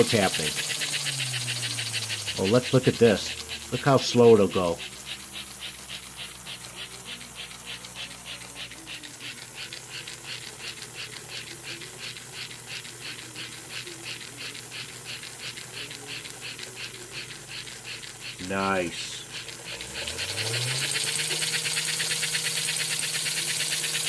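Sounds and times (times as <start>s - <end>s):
toy steam locomotive chuffing: 0.0s - 24.0s
toy train motor hum: 0.0s - 24.0s.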